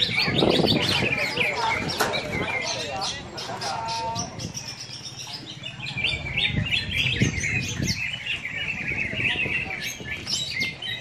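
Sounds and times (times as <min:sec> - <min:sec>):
caged birds chirping and whistling: 0:00.0 - 0:11.0.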